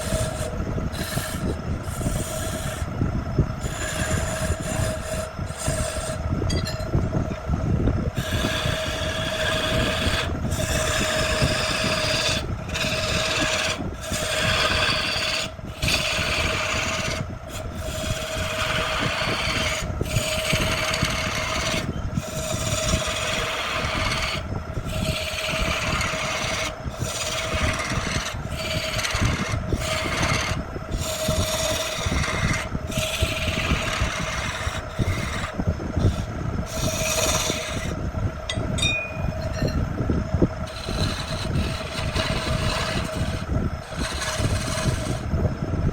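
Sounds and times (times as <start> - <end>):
wood being sanded: 0.0 - 2.9, 3.6 - 6.3, 8.2 - 38.0, 40.6 - 45.3
motor humming: 0.0 - 45.9.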